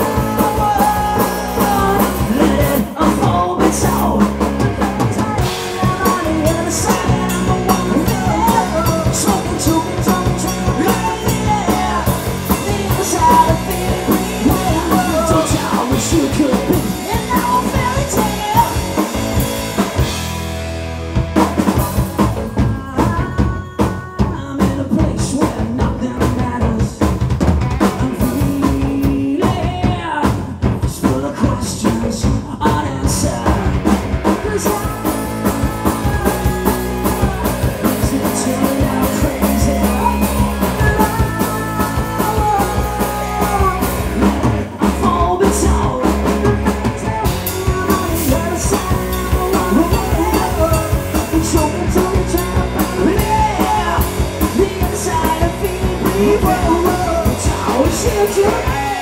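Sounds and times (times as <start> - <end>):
drum kit: 0.0 - 59.0
live rock band playing: 0.0 - 59.0.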